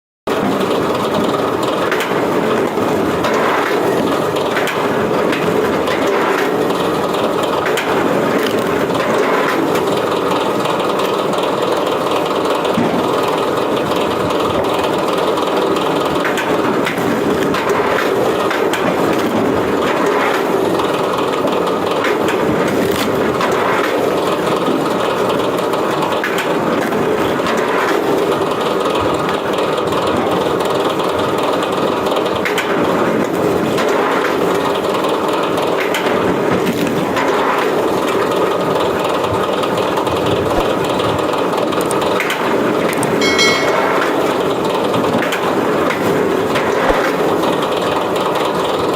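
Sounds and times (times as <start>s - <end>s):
wood-processing machine running: 0.3s - 42.8s.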